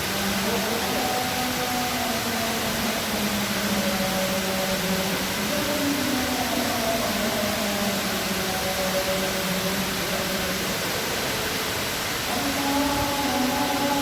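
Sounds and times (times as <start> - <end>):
call to prayer singing: 0.0 - 14.0
waterfall rushing: 0.0 - 14.0.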